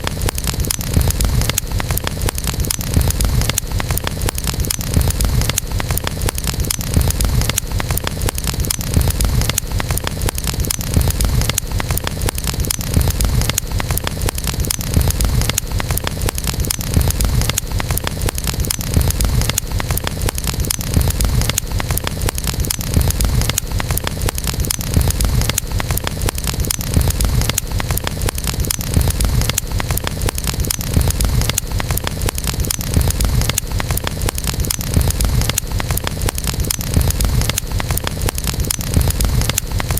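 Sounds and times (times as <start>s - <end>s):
campfire crackling: 0.0s - 39.9s
low rumble of flames: 0.0s - 39.9s.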